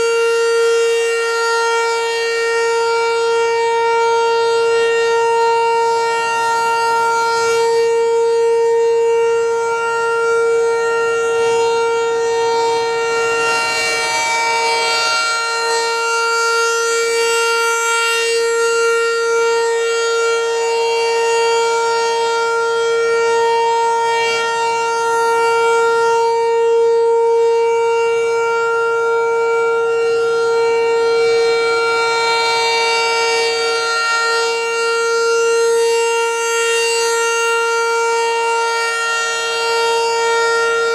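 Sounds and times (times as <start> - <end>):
steady warning siren: 0.0 - 40.9.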